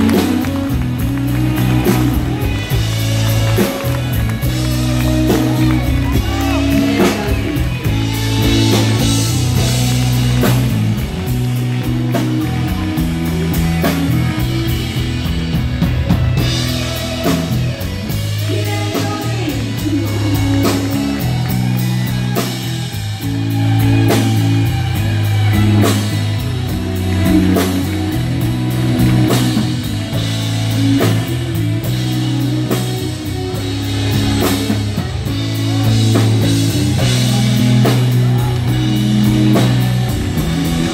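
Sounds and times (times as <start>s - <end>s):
bass guitar: 0.0s - 40.9s
electric guitar lead: 0.0s - 40.9s
rock band playing loud: 0.0s - 40.9s
steady drum beat: 0.0s - 40.9s.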